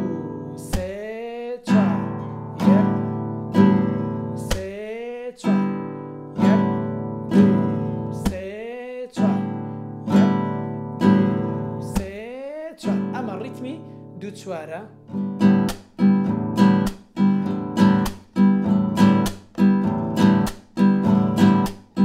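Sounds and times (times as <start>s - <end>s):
classical guitar strumming: 0.0s - 22.0s.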